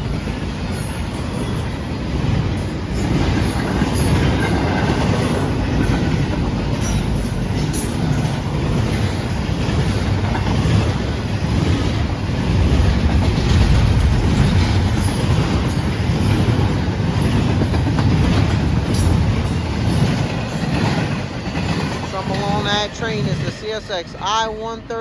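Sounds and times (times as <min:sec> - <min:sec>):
clickety-clack over rail joints: 0:00.0 - 0:24.9
train wheels rumbling on rails: 0:00.0 - 0:25.0.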